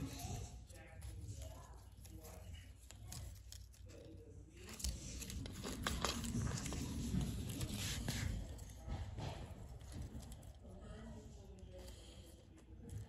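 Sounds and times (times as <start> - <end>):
plastic toy rustling and clicking: 0.0 - 13.0.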